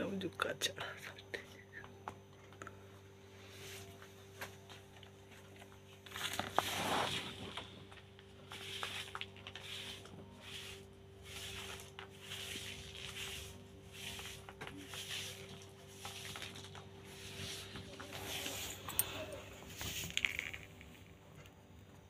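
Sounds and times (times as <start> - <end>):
plastic bags rustling: 3.6 - 21.3.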